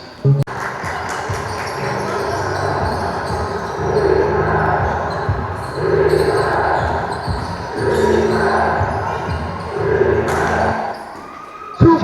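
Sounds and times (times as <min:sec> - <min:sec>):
gym hall noise: 0:00.0 - 0:12.0
basketball bouncing on court: 0:00.5 - 0:10.6.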